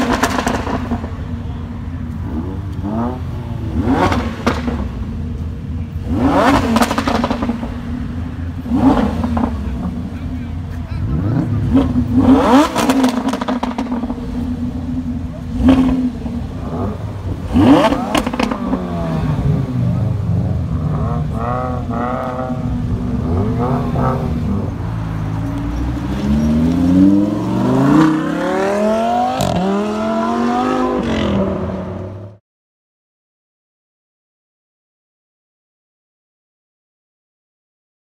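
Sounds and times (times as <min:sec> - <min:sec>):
sports car engine revving: 0:00.0 - 0:32.4.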